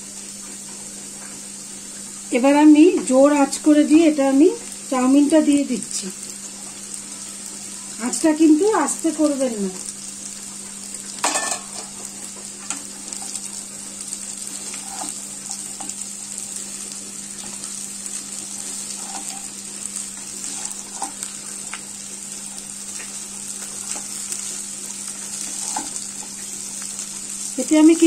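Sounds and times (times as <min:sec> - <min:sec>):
noodles sizzling in hot oil: 0:00.0 - 0:28.0.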